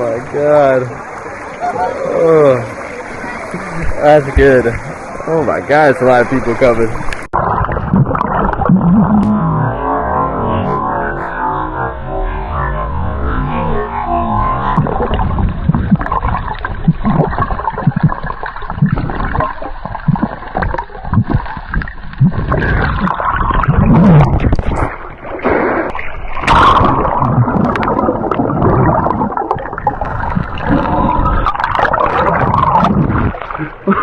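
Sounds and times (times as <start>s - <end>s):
river water gurgling and splashing: 0.0s - 11.7s, 12.5s - 34.0s.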